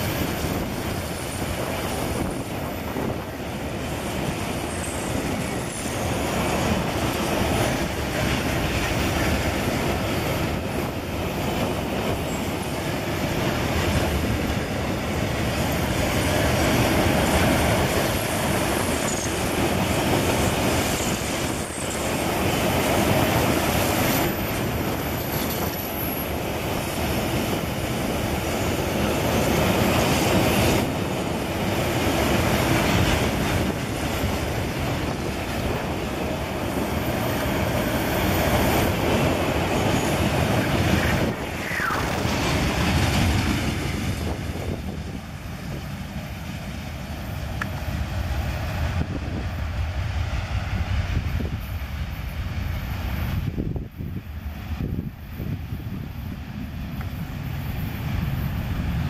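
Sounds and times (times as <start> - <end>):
steel wheels rolling on rail: 0.0 - 59.0.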